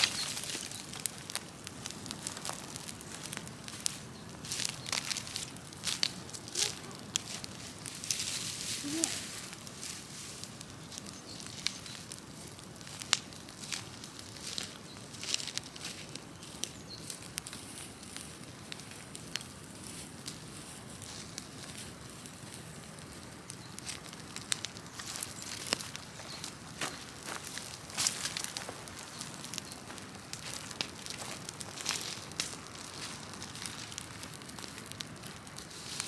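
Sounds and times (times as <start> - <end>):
bonfire crackling and popping: 0.0 - 36.0
flames roaring low: 0.0 - 36.0.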